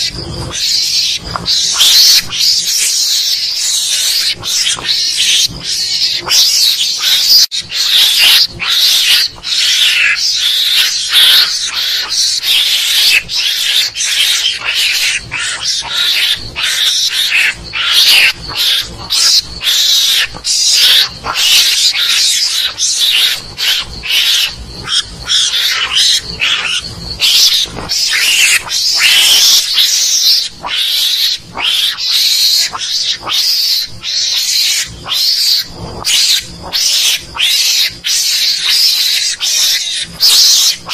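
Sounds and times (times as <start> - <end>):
mongoose calls: 0.0 - 40.9.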